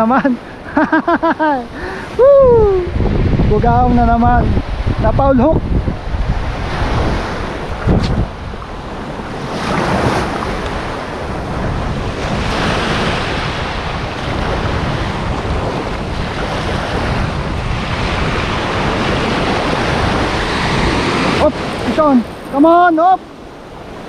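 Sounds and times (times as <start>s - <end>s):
small waves washing on sand: 0.0s - 24.0s
wind buffeting microphone: 0.0s - 24.0s.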